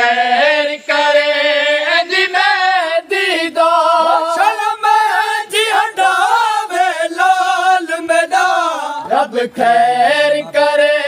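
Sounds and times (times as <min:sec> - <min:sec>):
men singing a lament in unison: 0:00.0 - 0:11.0.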